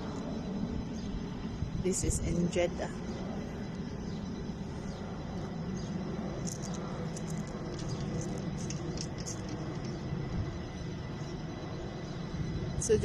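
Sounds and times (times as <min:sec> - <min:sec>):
distant engines rumbling: 0:00.0 - 0:13.0.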